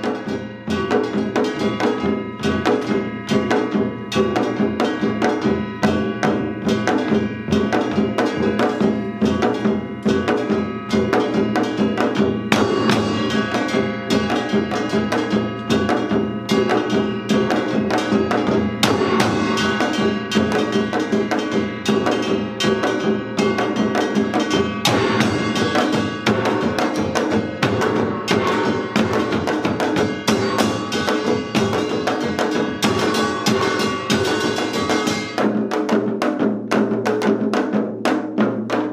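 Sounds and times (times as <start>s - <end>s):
large gong: 0.0s - 35.4s
small gongs ringing: 0.0s - 35.6s
drums struck in fast rhythm: 0.0s - 38.9s.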